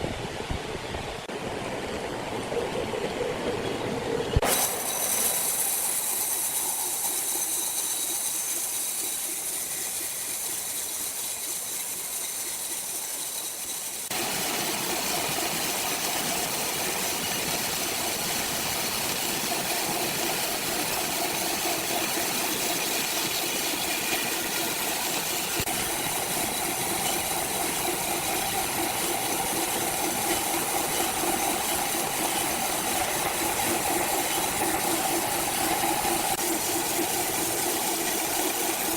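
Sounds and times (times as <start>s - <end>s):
sawmill machinery hiss and hum: 2.3s - 38.9s.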